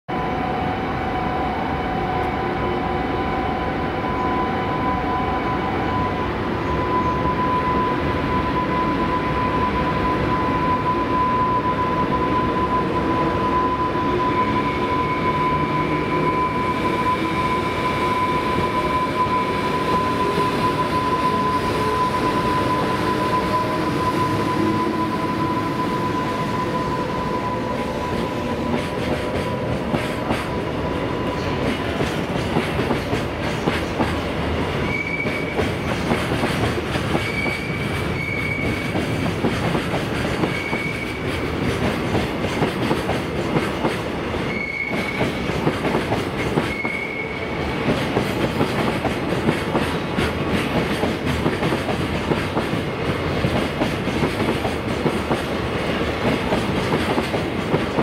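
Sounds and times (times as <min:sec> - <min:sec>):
train rumbling: 0:00.1 - 0:58.0.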